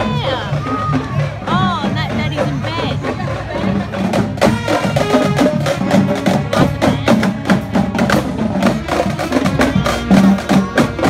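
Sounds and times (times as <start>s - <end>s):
brass and saxophones: 0.0s - 11.0s
marching snare drums: 0.0s - 11.0s.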